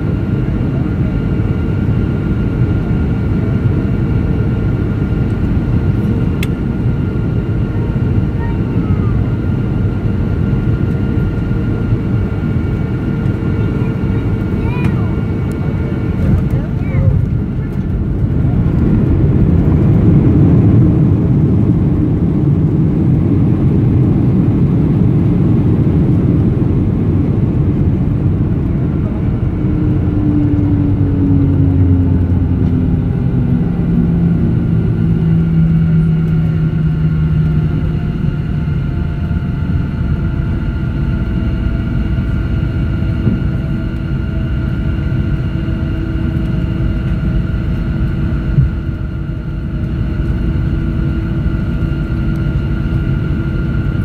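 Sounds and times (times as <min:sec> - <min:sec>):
jet cabin rumble: 0:00.0 - 0:54.0
jet engine whine: 0:00.0 - 0:54.0.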